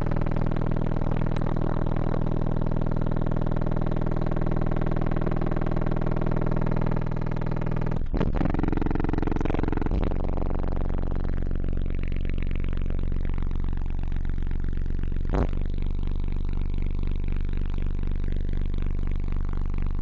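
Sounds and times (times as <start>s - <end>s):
buzzing overtones: 0.0s - 20.0s
low bass test tone: 0.0s - 20.0s.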